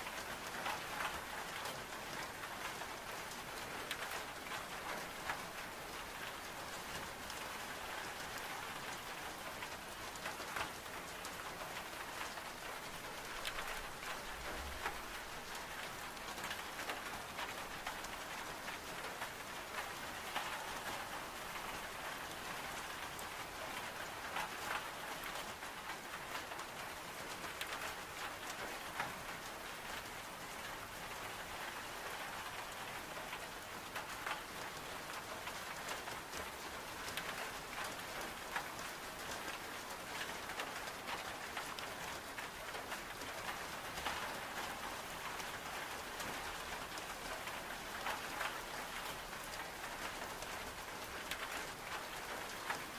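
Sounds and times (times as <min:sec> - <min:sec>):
heavy rain on window glass: 0:00.0 - 0:52.9.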